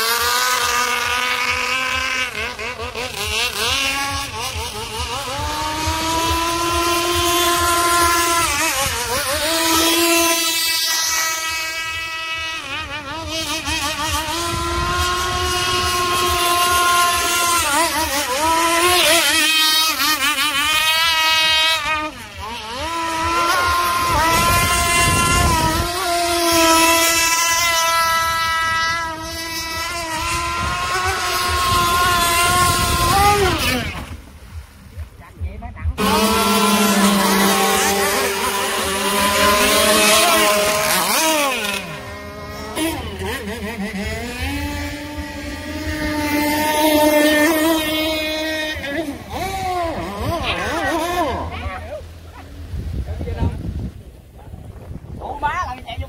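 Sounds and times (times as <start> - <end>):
model boat engine whining: 0.0 - 34.8, 36.0 - 52.7.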